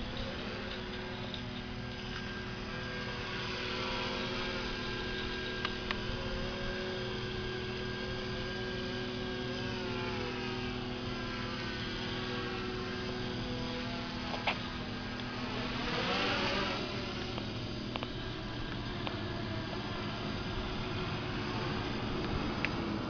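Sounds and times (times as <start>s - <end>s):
model airplane motor hum: 0.0s - 23.0s.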